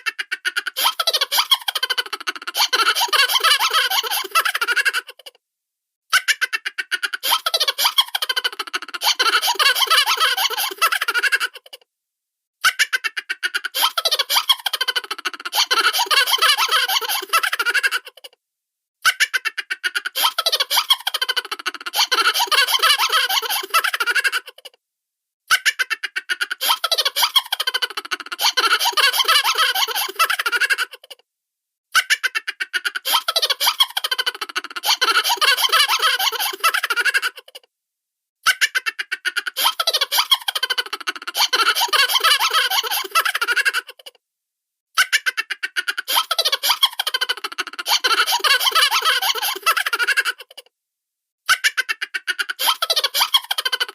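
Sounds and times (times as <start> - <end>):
high-pitched cartoon giggling: 0.0 - 5.4, 6.1 - 11.8, 12.6 - 18.4, 19.0 - 24.8, 25.5 - 31.2, 31.9 - 37.7, 38.4 - 44.2, 45.0 - 50.7, 51.5 - 53.9.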